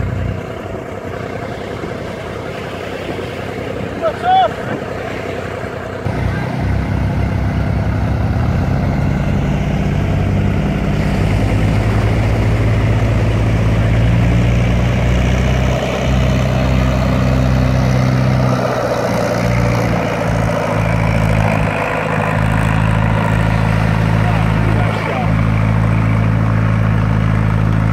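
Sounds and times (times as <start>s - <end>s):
tractor diesel engine running: 0.0s - 27.9s
waves washing: 0.4s - 27.8s.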